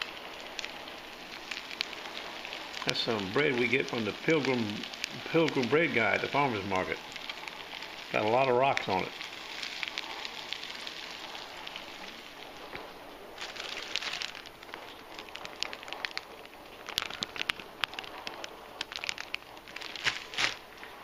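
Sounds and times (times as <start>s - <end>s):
bread sizzling in a skillet: 0.0s - 21.0s.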